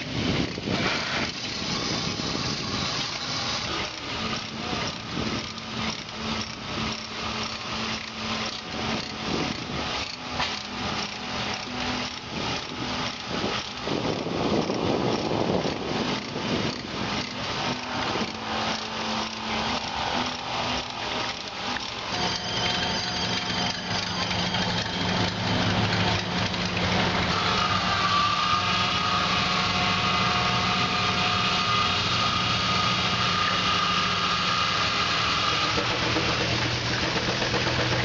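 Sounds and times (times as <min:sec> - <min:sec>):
steam engine exhaust chuffing: 0:00.0 - 0:38.0.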